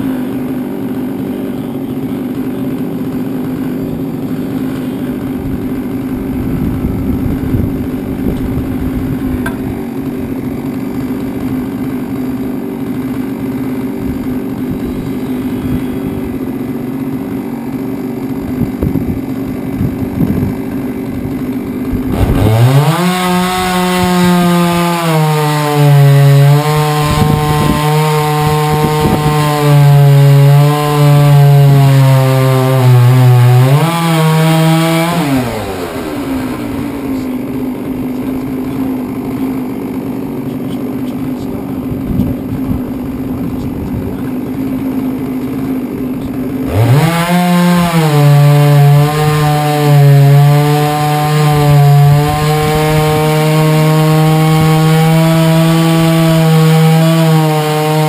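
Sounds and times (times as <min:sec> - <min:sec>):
chainsaw cutting a log: 0:00.0 - 0:58.0
chainsaw idling and revving: 0:00.0 - 0:58.0.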